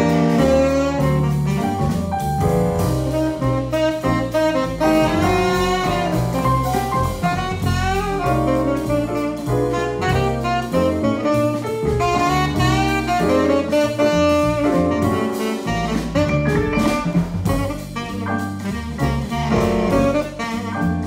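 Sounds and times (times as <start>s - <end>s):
jazz quartet playing: 0.0s - 21.0s
saxophone melody: 0.0s - 21.0s.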